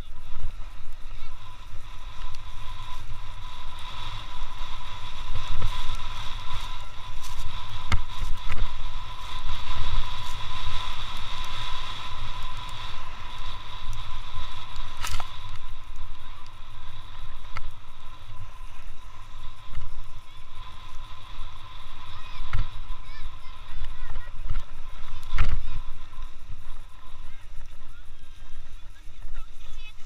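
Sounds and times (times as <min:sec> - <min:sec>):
sled runners hissing on snow: 0:00.0 - 0:30.0.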